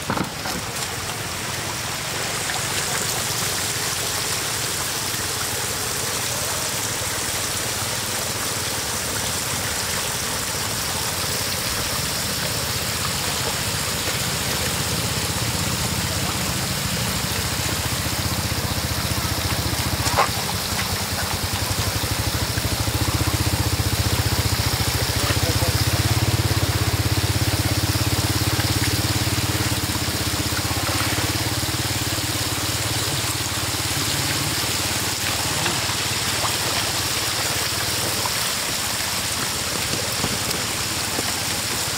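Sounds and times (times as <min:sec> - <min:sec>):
engine running: 0:00.0 - 0:41.9
floodwater rushing: 0:00.0 - 0:41.9.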